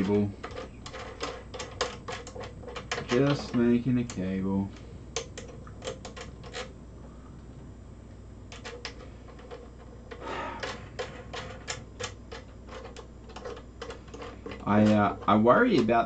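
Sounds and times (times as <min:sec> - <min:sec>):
cable plugs clicking: 0:00.0 - 0:04.3, 0:05.1 - 0:06.7, 0:08.5 - 0:16.0.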